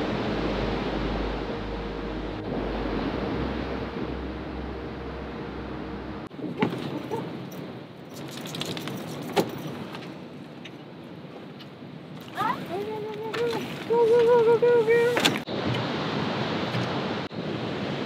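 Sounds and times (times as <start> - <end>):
ocean surf rumbling: 0.0 - 8.1, 8.9 - 18.0.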